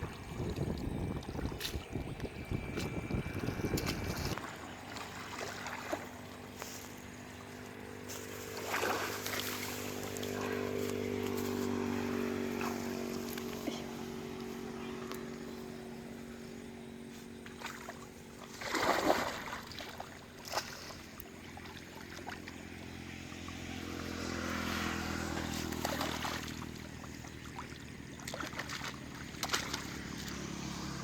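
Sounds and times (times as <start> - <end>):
water splashing: 0.0 - 15.4, 17.4 - 31.0
engine running: 0.0 - 31.0.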